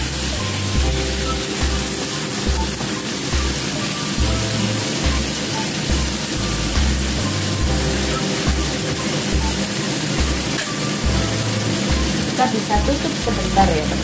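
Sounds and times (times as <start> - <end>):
background music with bass line: 0.0 - 14.0
food sizzling in frying pan: 0.0 - 14.0.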